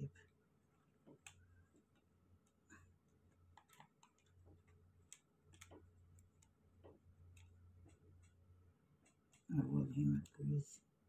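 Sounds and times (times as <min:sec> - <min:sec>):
small clicks and ticks: 0:00.1 - 0:10.8.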